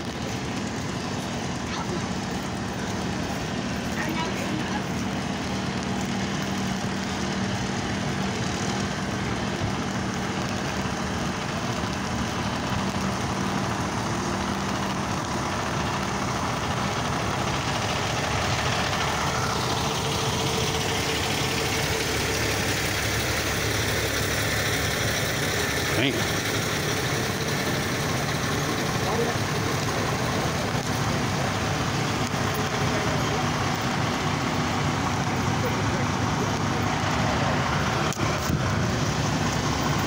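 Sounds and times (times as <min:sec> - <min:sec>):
traffic on a wet road: 0:00.0 - 0:40.0
truck diesel engine idling: 0:00.0 - 0:40.0.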